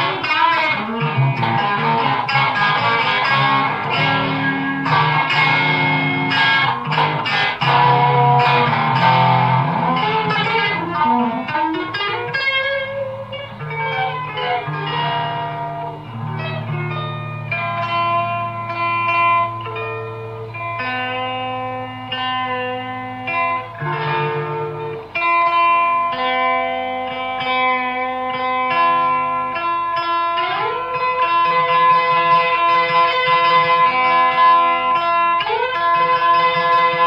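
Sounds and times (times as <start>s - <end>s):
electric guitar playing: 0.0s - 37.0s.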